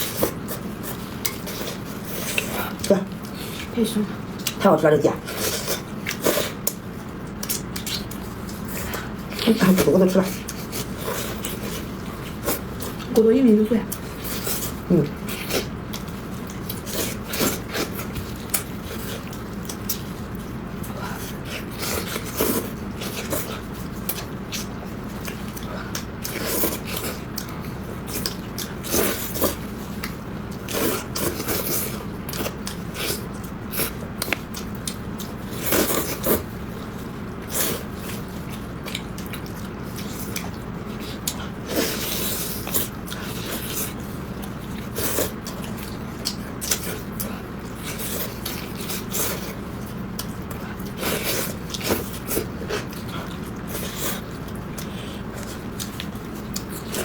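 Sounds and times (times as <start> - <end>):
person chewing with wet smacking: 0.0 - 57.0.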